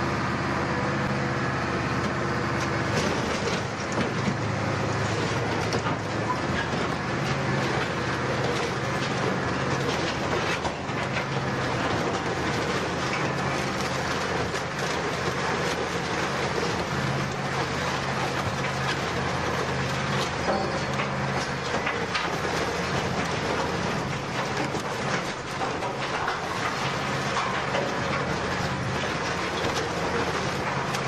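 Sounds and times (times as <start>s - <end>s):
low machine hum: 0.0s - 31.0s
shredder grinding sheet metal: 3.0s - 31.0s.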